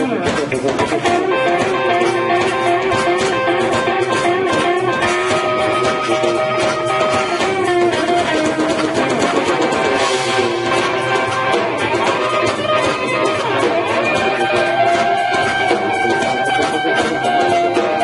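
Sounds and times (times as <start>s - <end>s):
electric guitar: 0.0s - 18.0s
live band playing: 0.0s - 18.0s.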